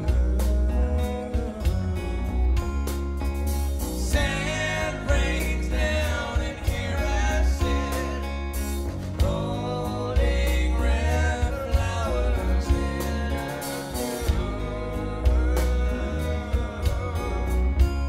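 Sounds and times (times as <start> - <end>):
man singing: 0.0 - 2.9, 4.0 - 18.0
bass guitar: 0.0 - 18.0
strummed acoustic guitar: 0.0 - 18.0.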